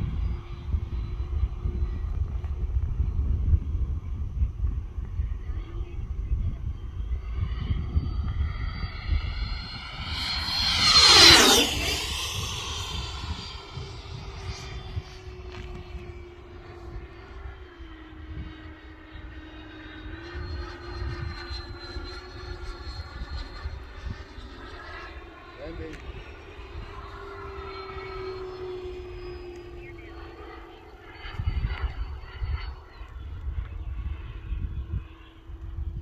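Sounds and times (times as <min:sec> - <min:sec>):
model airplane motor whine: 0:00.0 - 0:36.0
wind rumble on microphone: 0:00.0 - 0:36.0.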